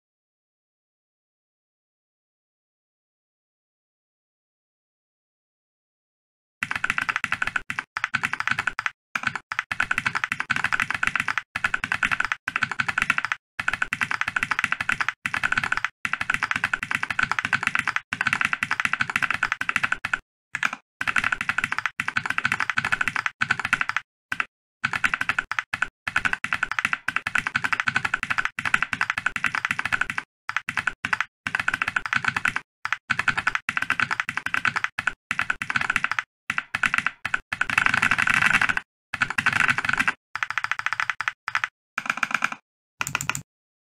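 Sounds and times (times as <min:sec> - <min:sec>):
mechanical keyboard typing: 0:06.6 - 0:43.5.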